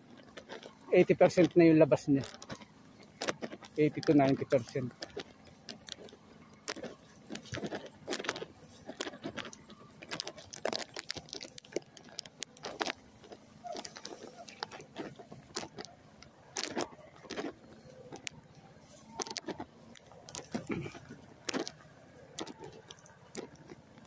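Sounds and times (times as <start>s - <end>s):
crackling rustles through rice plants: 0.0s - 24.0s.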